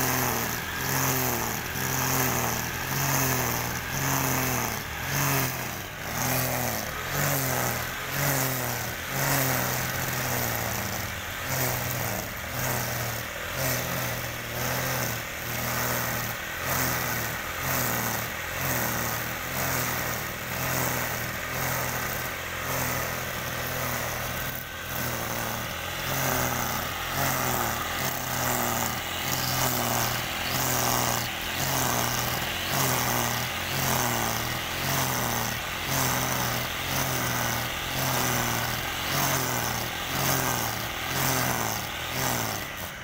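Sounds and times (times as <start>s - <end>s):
brush cutter engine running: 0.0s - 43.0s.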